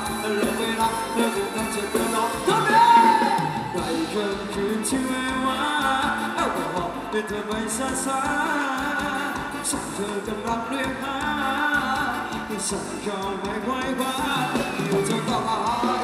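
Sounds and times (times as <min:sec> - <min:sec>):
live band dance song: 0:00.0 - 0:16.0
person singing: 0:00.0 - 0:16.0.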